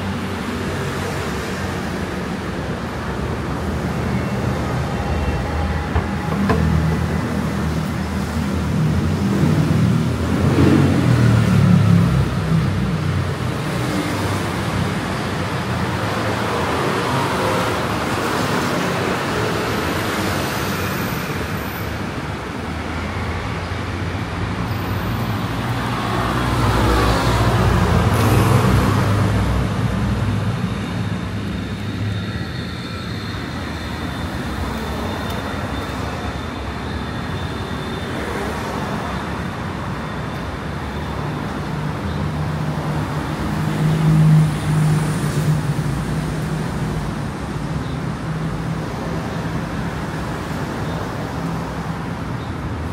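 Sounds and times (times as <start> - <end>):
road traffic: 0.0 - 52.9
vehicles passing close: 0.0 - 52.9.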